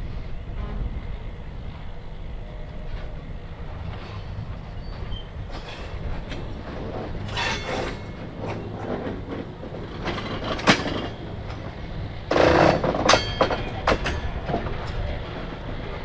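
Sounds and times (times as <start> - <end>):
diesel locomotive engine running: 0.0 - 16.0
wheels clanking on rails: 0.0 - 16.0.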